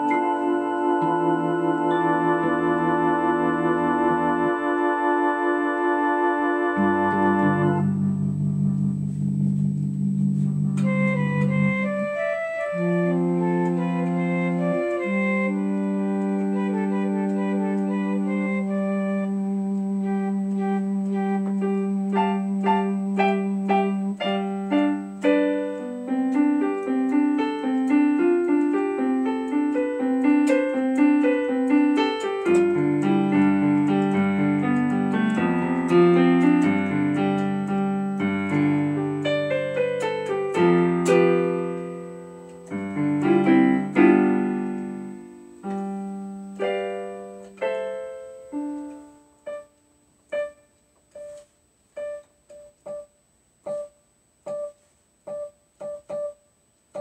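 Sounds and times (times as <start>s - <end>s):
piano keyboard music: 0.0s - 57.0s.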